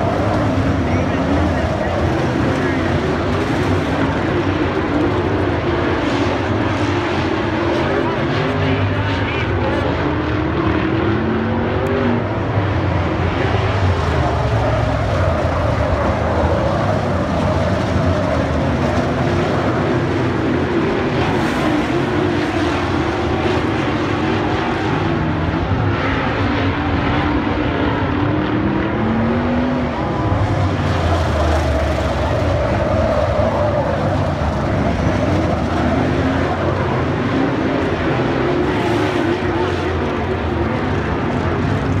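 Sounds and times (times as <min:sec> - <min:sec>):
race car engines: 0:00.0 - 0:42.0.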